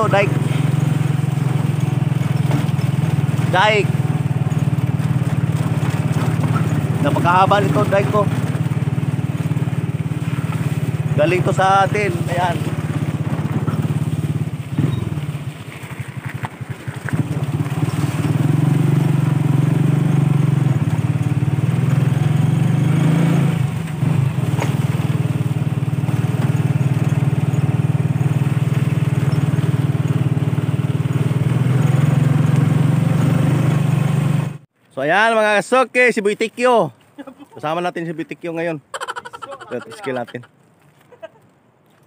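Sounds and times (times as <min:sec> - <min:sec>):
small motorcycle engine running: 0:00.0 - 0:34.7.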